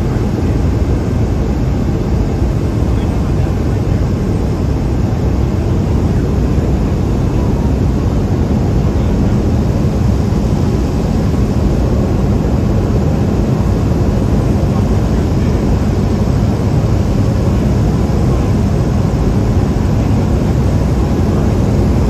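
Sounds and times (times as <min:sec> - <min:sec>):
turboprop engine and propeller: 0:00.0 - 0:22.0.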